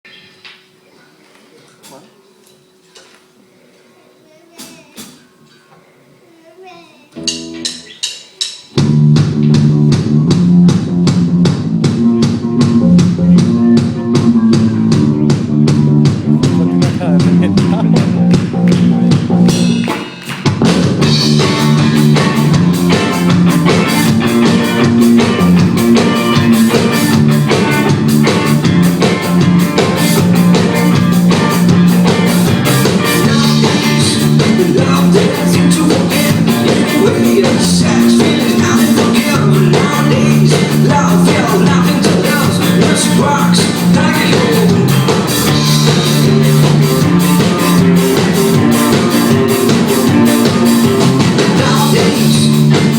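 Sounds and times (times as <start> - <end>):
drum kit beat: 7.2 - 52.9
rock band playing live: 7.2 - 52.9.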